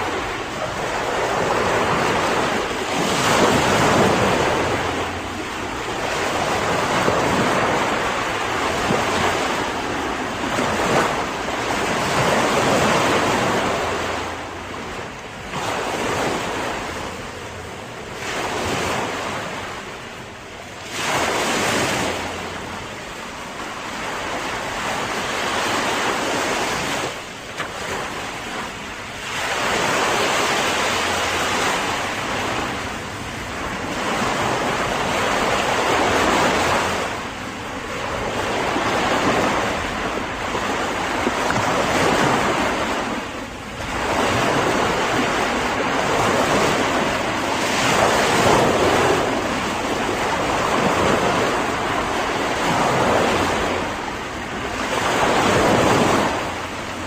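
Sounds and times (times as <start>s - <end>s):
ocean waves breaking on shore: 0.0s - 57.0s
wind buffeting microphone: 0.0s - 57.0s.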